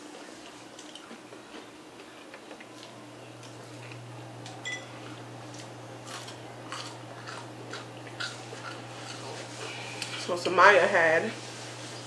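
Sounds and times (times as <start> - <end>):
steady low hum: 0.0 - 12.0
crunchy chewing: 0.1 - 10.3.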